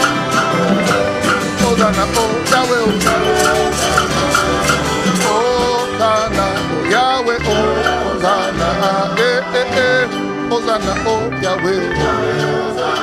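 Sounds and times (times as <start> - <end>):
bass line: 0.0 - 13.0
person singing: 0.0 - 13.0
upbeat gospel music: 0.0 - 13.0.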